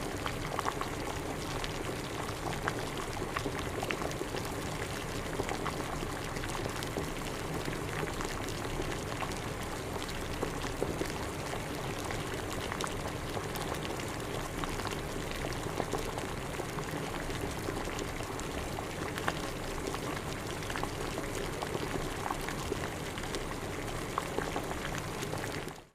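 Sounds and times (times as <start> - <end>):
water boiling and bubbling: 0.0 - 25.9.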